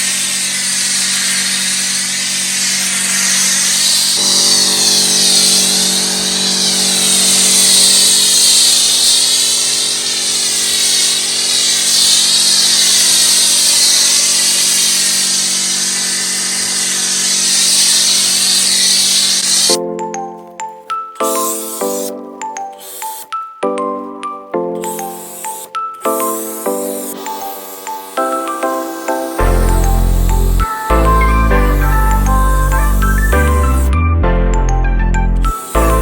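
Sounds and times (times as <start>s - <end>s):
pump motor humming: 0.0s - 19.8s, 24.8s - 36.0s
water jet hissing: 0.0s - 19.8s, 21.2s - 23.4s, 24.8s - 33.9s, 35.4s - 36.0s.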